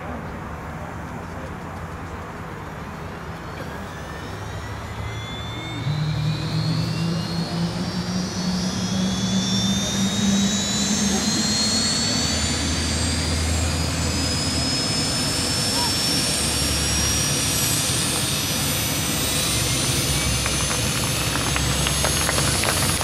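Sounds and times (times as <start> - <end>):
low engine and rotor hum: 0.0 - 23.0
helicopter turbine whine rising: 0.1 - 23.0.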